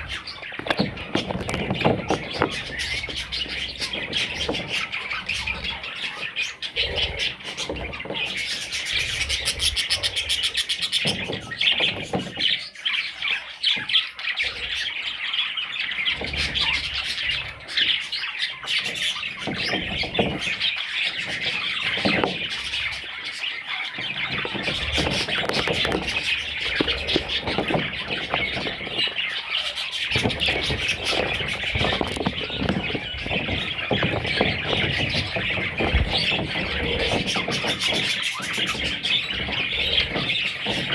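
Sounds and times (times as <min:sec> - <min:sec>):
budgerigars chirping and squawking: 0:00.0 - 0:40.9.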